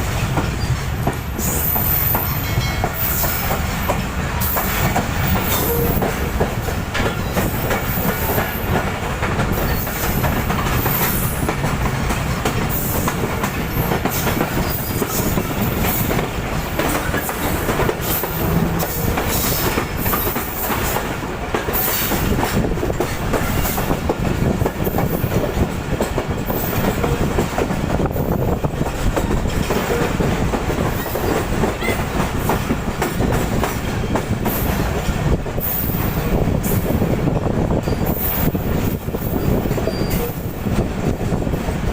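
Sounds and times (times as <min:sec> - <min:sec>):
train wheels clattering over rails: 0:00.0 - 0:41.9.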